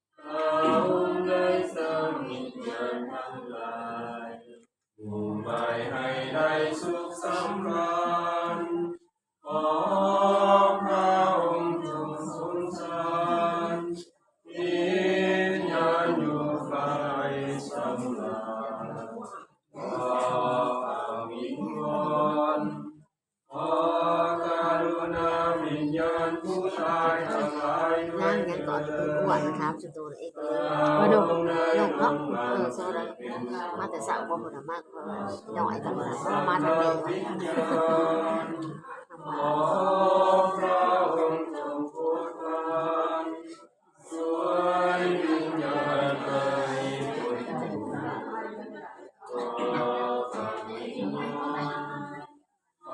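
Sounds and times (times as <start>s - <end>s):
congregation singing a hymn: 0.0s - 52.9s
group chanting a prayer: 0.0s - 52.9s.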